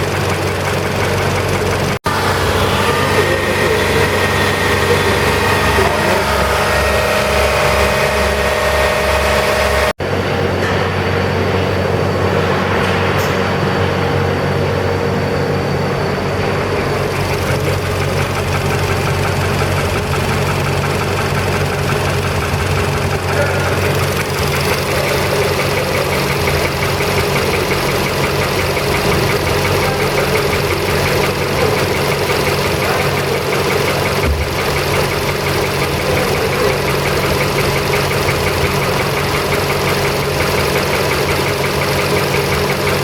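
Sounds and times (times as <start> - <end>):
car engine idling with knocking: 0.0 - 10.0, 10.6 - 43.0.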